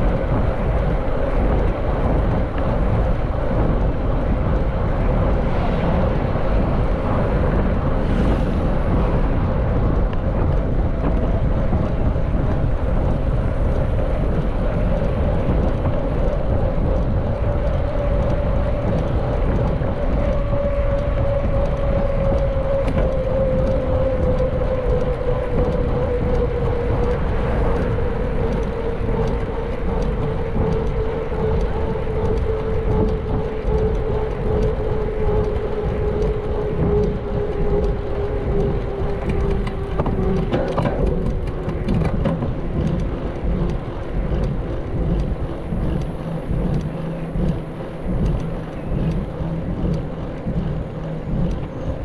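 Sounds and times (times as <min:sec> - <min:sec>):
steady hum: 0:00.0 - 0:52.0
wind buffeting microphone: 0:00.0 - 0:52.0.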